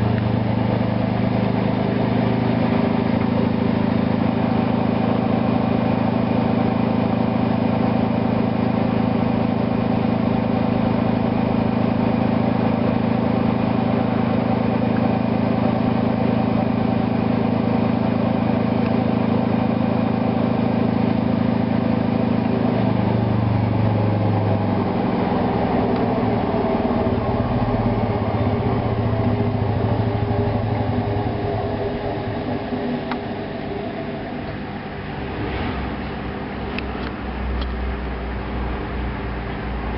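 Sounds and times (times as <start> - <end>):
washing machine spin cycle: 0.0 - 39.9.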